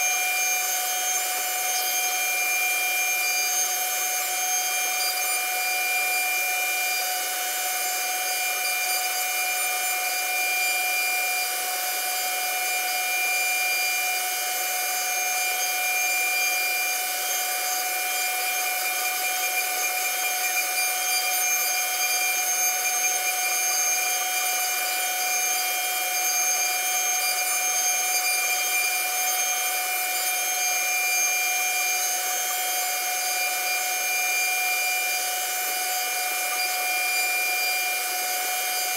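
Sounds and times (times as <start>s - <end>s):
cnc router spindle whine: 0.0s - 38.9s
router bit cutting wood hiss: 0.0s - 38.9s.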